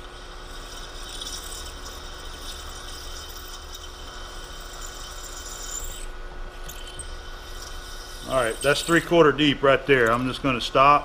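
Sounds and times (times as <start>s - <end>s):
milling machine spindle humming: 0.0s - 11.0s.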